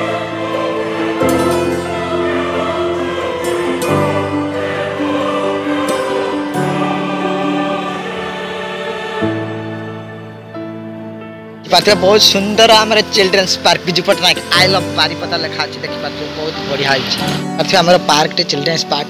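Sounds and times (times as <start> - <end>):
background music held chords: 0.0 - 19.0.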